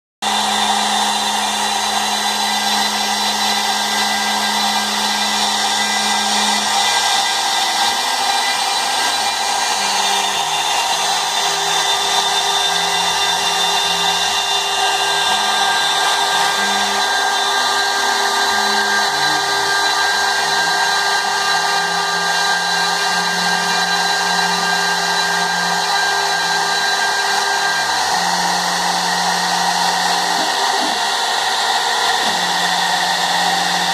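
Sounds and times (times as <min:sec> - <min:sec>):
low motor tones: 0:00.2 - 0:33.9.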